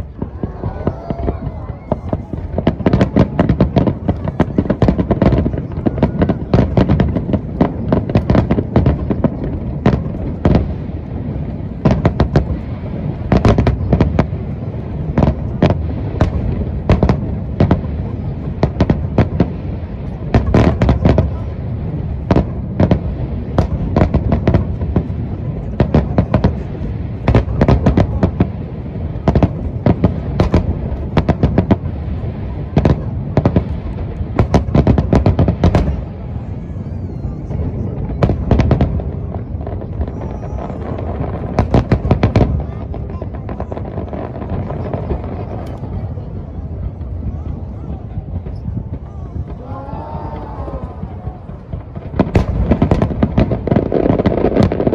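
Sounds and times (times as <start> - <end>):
low rumble of booms: 0.0 - 54.9.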